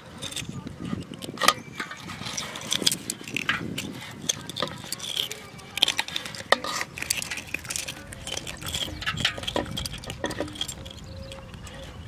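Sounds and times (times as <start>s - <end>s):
wet fish handling: 0.0s - 12.0s.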